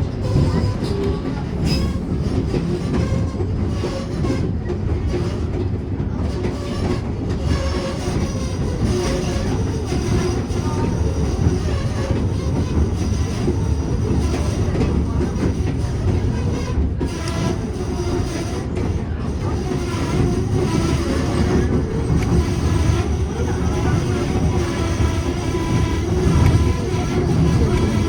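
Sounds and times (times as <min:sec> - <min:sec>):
faint wheel squeals: 0:00.0 - 0:28.0
train rumbling on rails: 0:00.0 - 0:28.0.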